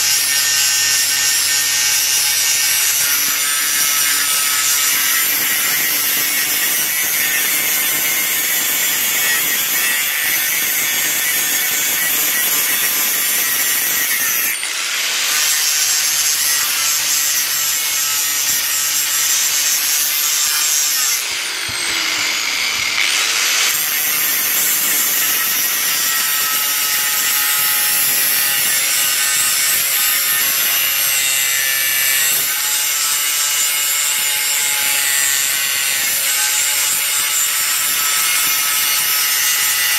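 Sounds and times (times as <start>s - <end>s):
power grinder grinding metal: 0.0s - 39.9s.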